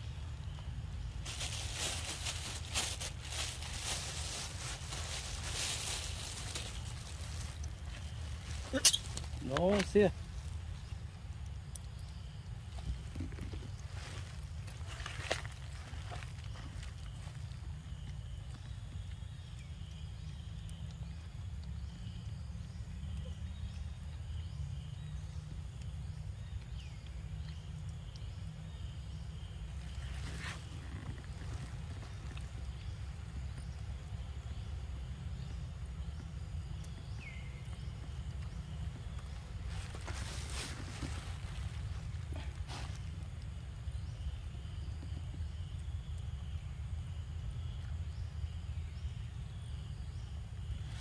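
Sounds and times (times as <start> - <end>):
small bird chirping: 0.0 - 51.0
wind rumble on microphone: 10.2 - 51.0.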